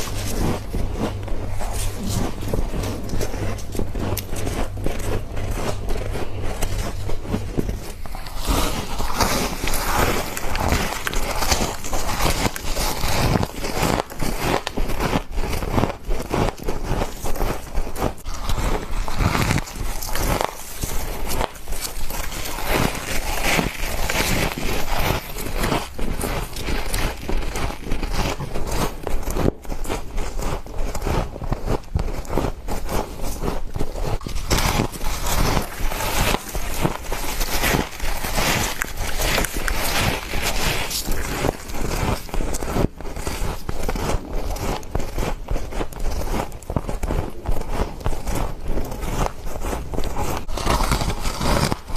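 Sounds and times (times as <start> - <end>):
crunching and chewing ice: 0.0 - 51.9.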